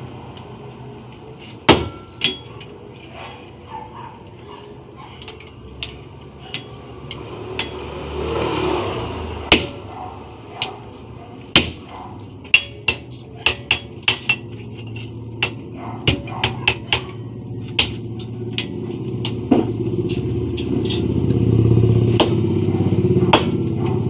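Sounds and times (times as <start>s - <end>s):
hammer striking metal: 1.7s - 3.6s, 5.2s - 8.3s, 9.0s - 10.9s, 11.5s - 24.0s.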